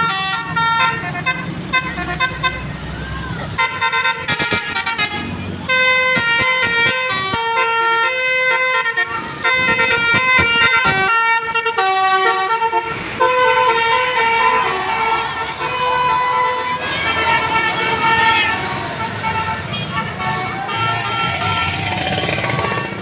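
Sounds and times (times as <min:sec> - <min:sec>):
multi-tone bus horn melody: 0:00.0 - 0:02.8, 0:03.5 - 0:23.0.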